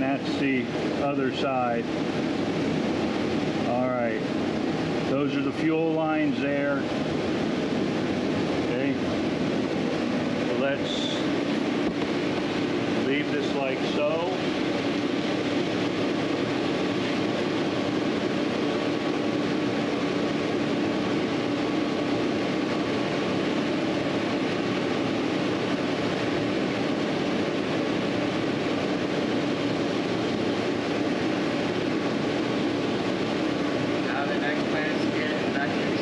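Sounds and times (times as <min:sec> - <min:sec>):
mechanical hum: 0:00.0 - 0:36.0.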